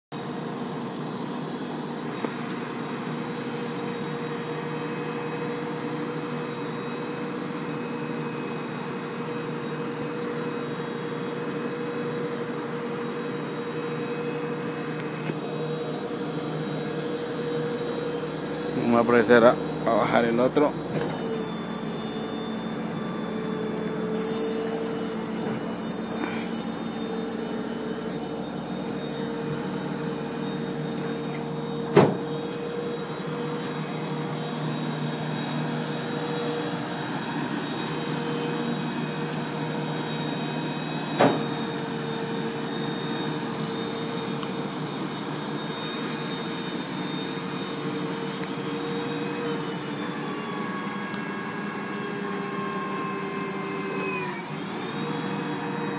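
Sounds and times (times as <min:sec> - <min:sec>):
truck engine and hydraulics running: 0:00.2 - 0:55.9.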